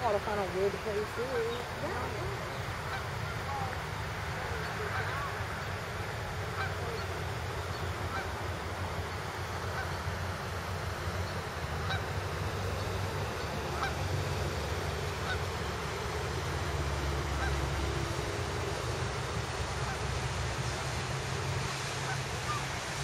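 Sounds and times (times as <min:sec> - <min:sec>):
geese honking: 0:00.0 - 0:21.0, 0:21.8 - 0:22.9
steady low rumble: 0:00.0 - 0:23.0.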